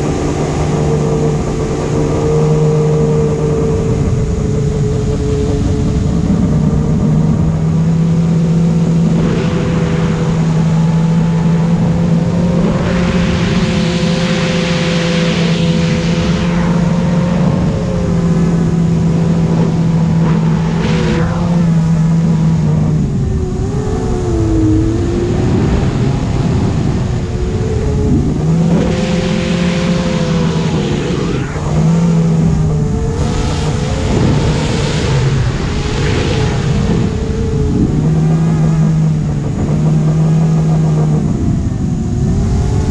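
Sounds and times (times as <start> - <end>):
quadcopter motors whining: 0.0 - 42.9
rushing wind noise: 0.0 - 42.9.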